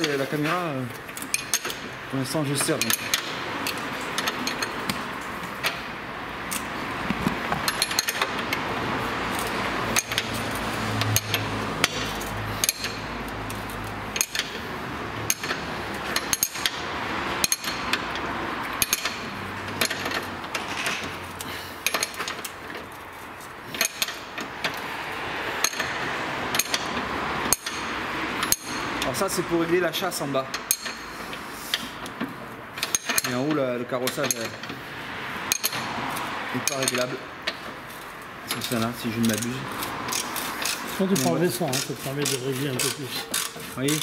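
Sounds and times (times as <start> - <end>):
spanners clicking on metal: 0.0 - 5.8, 7.6 - 8.7, 9.3 - 16.8, 17.4 - 24.9, 25.6 - 34.8, 35.4 - 44.0.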